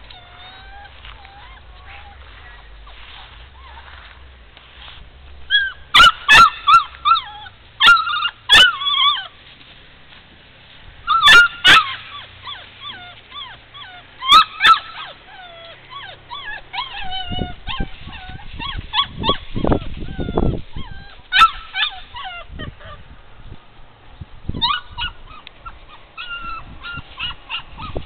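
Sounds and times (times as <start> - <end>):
puppy yipping and whining: 0.0 - 3.9, 5.5 - 9.4, 11.1 - 23.0, 24.5 - 28.0.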